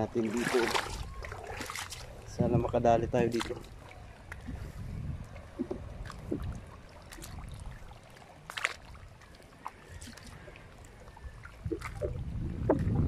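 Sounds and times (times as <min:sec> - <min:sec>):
water lapping among rocks: 0:00.0 - 0:13.0.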